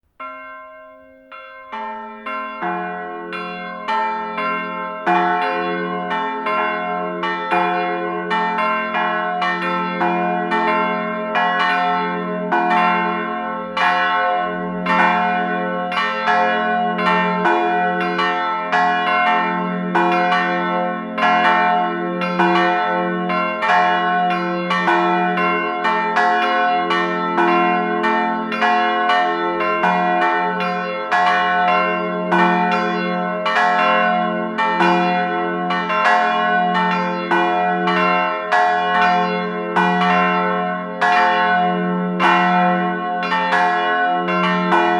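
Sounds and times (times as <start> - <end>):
church bells pealing: 0.2 - 44.9.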